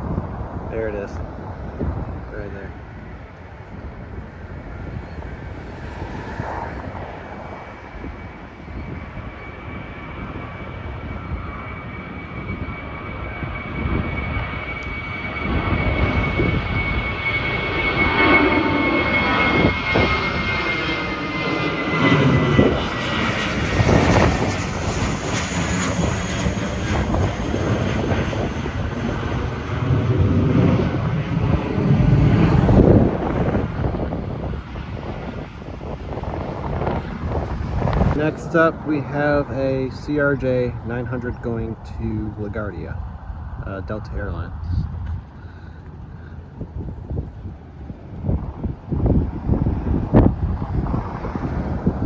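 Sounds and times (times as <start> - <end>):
high jet whine: 0.0 - 52.0
jet engines rumbling: 0.0 - 52.0.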